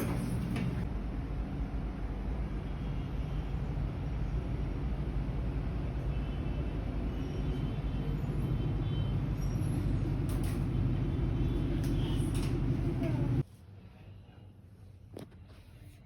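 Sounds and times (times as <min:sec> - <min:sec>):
low rumble of road vehicles: 0:00.0 - 0:15.8.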